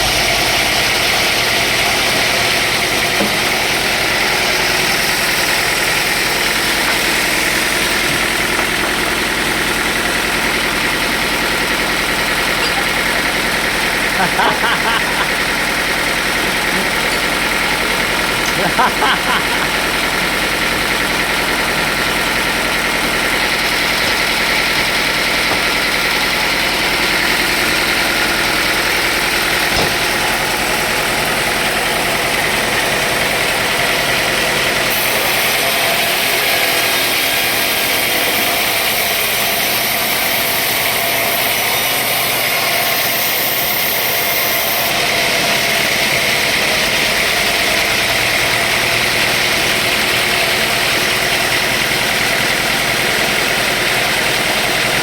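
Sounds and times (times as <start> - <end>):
machinery hiss: 0.0 - 46.9
sawmill machinery drone: 0.0 - 55.0.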